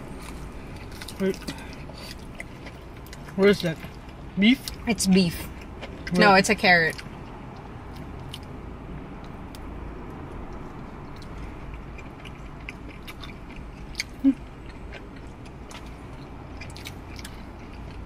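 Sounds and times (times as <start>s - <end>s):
people chewing food: 0.0s - 18.0s
steady low hum: 0.0s - 18.0s.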